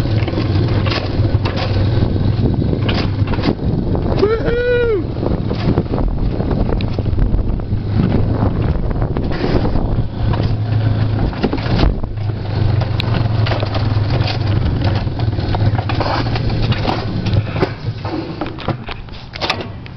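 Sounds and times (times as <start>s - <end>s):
sled rattling clacks: 0.0s - 4.4s, 5.0s - 19.9s
wheels rumbling on steel rails: 0.0s - 19.9s.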